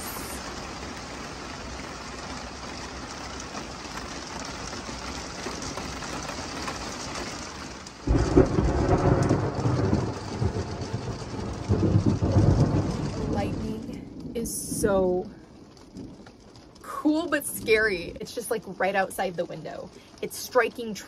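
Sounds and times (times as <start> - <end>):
rain falling: 0.0 - 21.0
thunder crack and rumble: 0.0 - 21.0.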